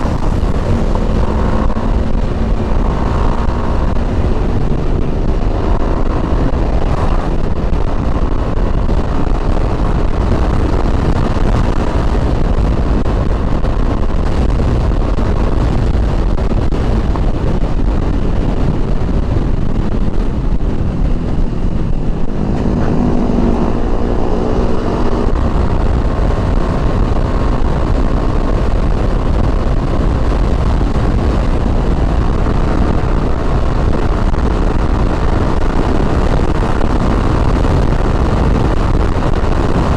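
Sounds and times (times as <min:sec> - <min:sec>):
motorcycle engine: 0:00.0 - 0:39.9
wind rush on microphone: 0:00.0 - 0:39.9.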